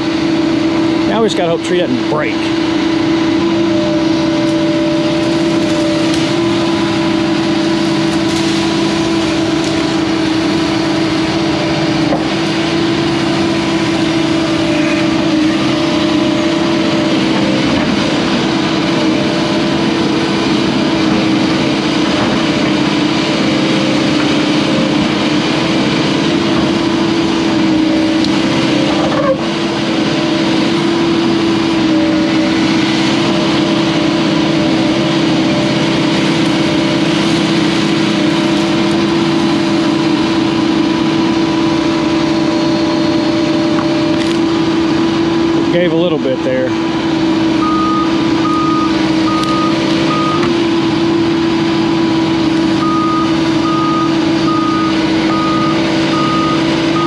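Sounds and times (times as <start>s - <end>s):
excavator diesel engine running: 0.0s - 57.0s
strong steady hum: 0.0s - 57.0s.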